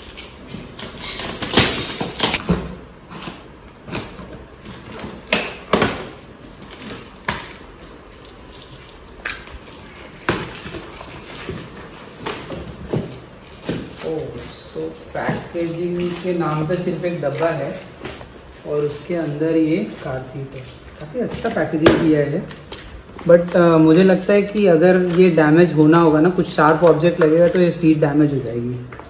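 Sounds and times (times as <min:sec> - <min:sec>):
cardboard and tape rustling: 0:00.0 - 0:29.0.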